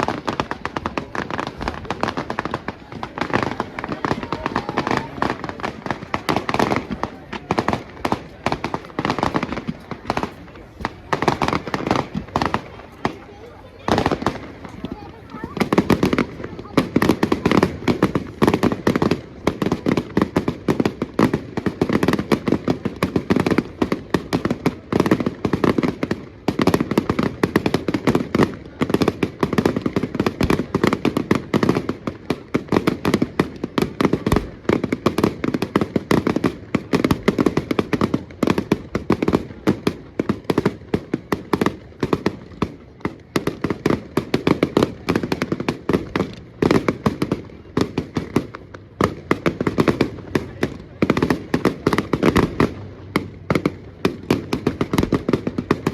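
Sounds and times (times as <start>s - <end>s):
firecrackers popping: 0.0s - 55.9s.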